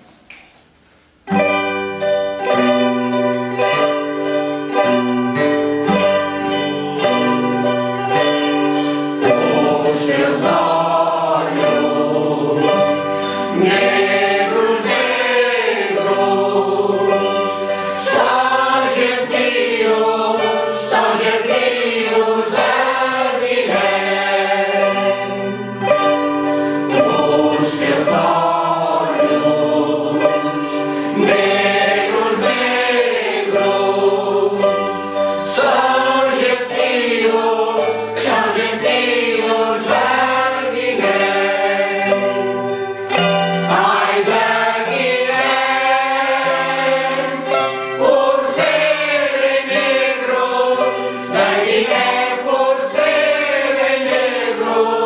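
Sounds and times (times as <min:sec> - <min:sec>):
mandolins and guitars strumming: 0:01.2 - 0:55.0
choir singing: 0:02.4 - 0:55.0.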